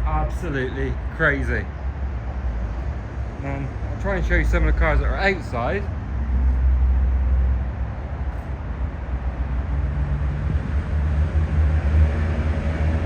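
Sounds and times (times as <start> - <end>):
passing vehicle engine hum: 0.0 - 13.0
road traffic rumble: 0.0 - 13.0.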